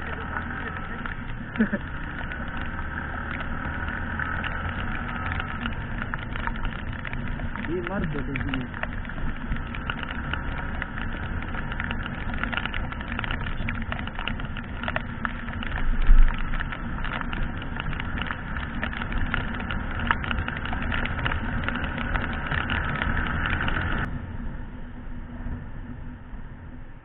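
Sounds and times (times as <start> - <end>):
raindrops crackling on housing: 0.0 - 24.1
motorcycle engine running: 0.0 - 27.0.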